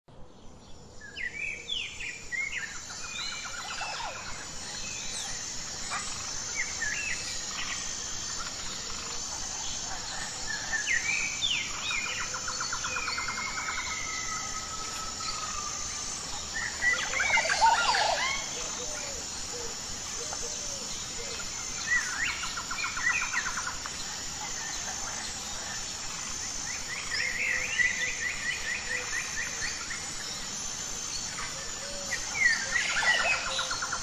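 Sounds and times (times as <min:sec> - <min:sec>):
birds singing: 0:00.3 - 0:34.0
steady hiss: 0:00.5 - 0:34.0.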